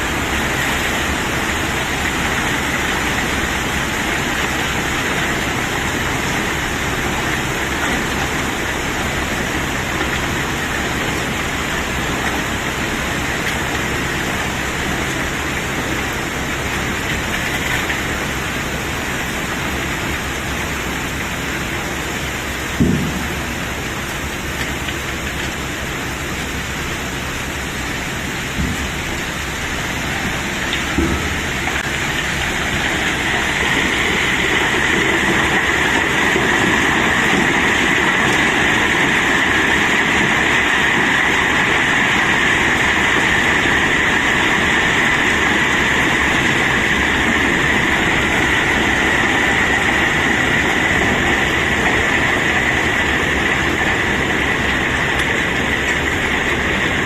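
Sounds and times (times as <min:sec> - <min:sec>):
clatter of cobblestones unloading: 0:00.0 - 0:57.0.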